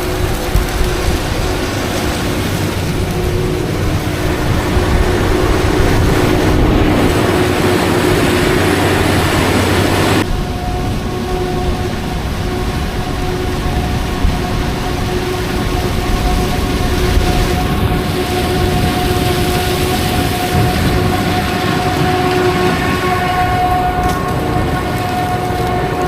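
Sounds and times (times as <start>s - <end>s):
farm machinery engine drone: 0.0s - 26.0s
rushing mechanical noise: 0.0s - 26.0s.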